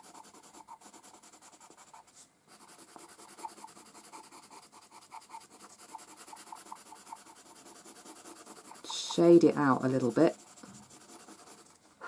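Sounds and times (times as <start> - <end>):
pencil scratching on paper: 0.0 - 11.9.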